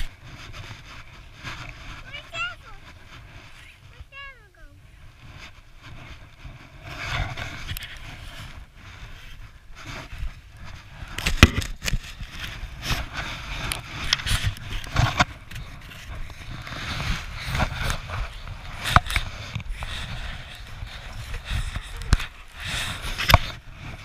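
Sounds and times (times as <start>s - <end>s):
plastic shovel scraping snow: 0.0s - 24.0s.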